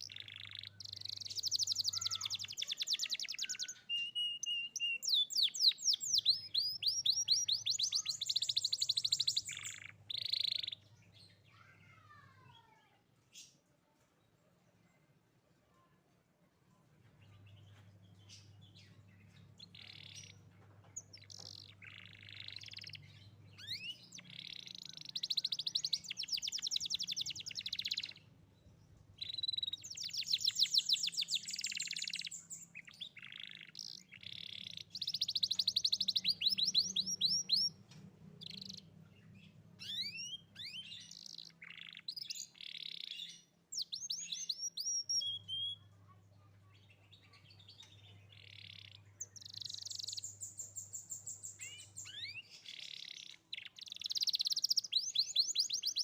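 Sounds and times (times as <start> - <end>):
canary singing: 0.0 - 12.4, 17.2 - 56.0.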